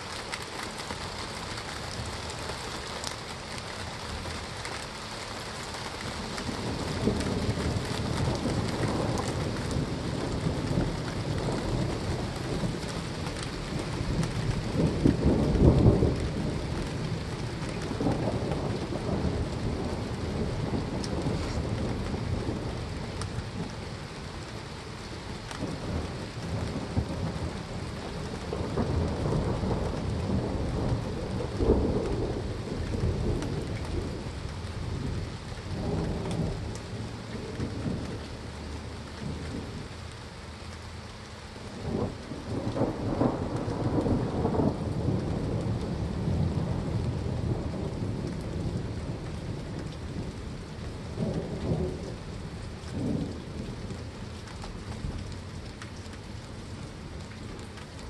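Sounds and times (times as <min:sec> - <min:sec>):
steady rain: 0:00.0 - 0:58.0
rolling thunder: 0:06.2 - 0:24.5, 0:25.6 - 0:40.0, 0:41.6 - 0:58.0.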